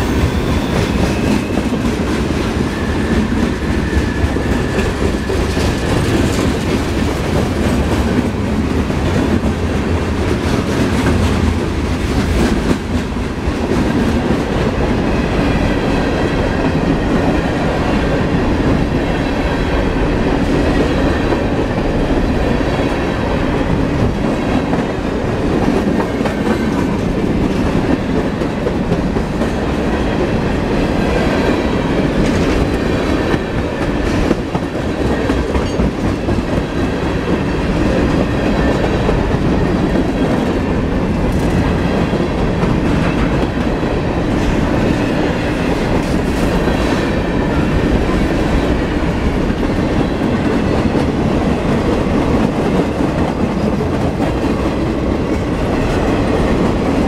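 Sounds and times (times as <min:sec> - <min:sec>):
steel wheels rolling on rails: 0:00.0 - 0:57.0.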